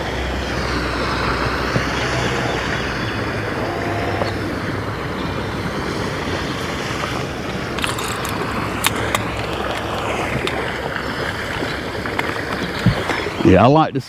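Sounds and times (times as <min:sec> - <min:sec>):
wind on microphone: 0:00.0 - 0:13.8
boat motor running: 0:00.0 - 0:13.9.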